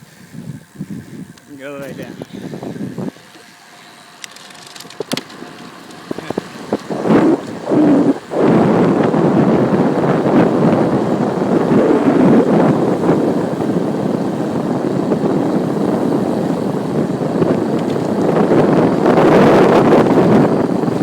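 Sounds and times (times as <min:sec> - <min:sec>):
wind buffeting microphone: 0:00.0 - 0:03.6, 0:04.2 - 0:21.0.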